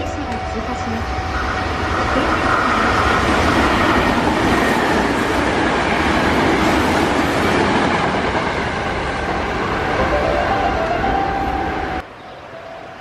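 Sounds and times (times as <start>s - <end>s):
electric train running past: 0.0s - 13.0s.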